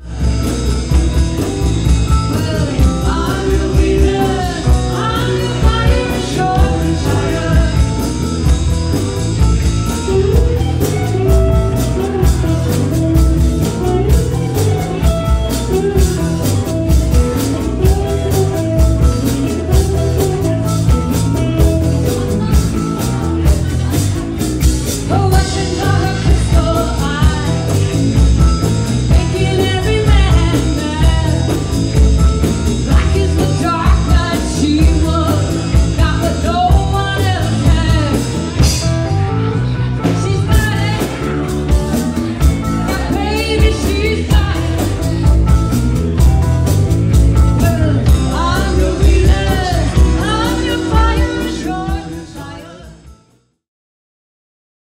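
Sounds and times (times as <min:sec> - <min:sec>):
woman singing lead: 0:00.0 - 0:08.9, 0:09.6 - 0:24.2, 0:24.8 - 0:45.7, 0:47.6 - 0:53.1
live rock band playing: 0:00.0 - 0:53.6.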